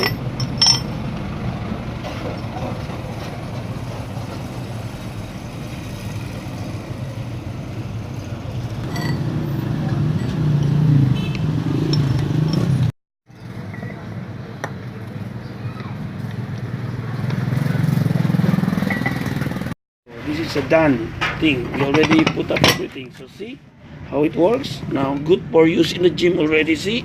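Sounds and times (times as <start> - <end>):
motor vehicle engine rumble: 0.0 - 23.1.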